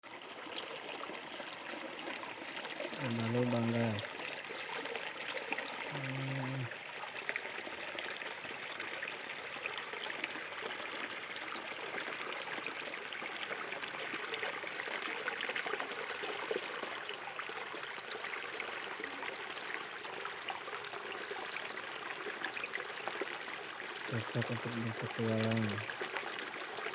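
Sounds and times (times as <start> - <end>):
river water trickling: 0.0 - 26.9.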